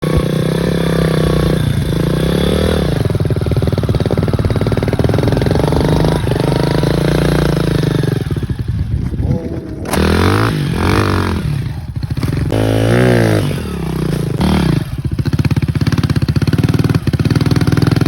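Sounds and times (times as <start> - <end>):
dirt bike engine under throttle: 0.0 - 18.0.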